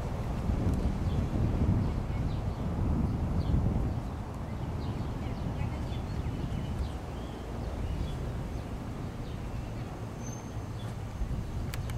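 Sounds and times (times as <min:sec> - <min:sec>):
small birds chirping: 0:01.0 - 0:11.9.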